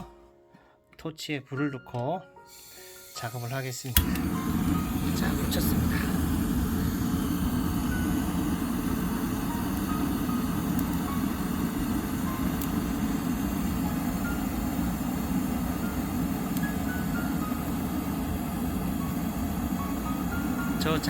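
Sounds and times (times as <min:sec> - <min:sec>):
gas torch roaring: 0:04.0 - 0:21.0.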